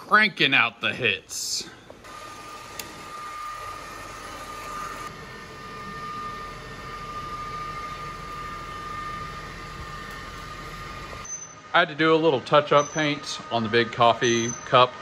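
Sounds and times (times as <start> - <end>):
machinery humming: 1.3 - 15.0
thin high whine: 1.6 - 15.0.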